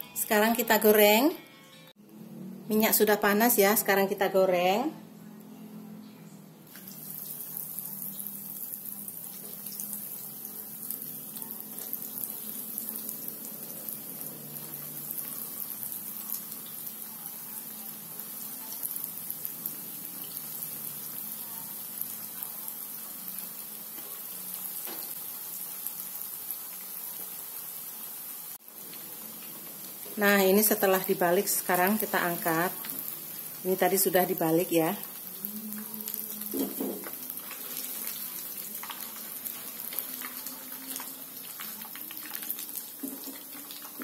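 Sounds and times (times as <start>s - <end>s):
tofu deep-frying in oil: 6.7s - 44.0s.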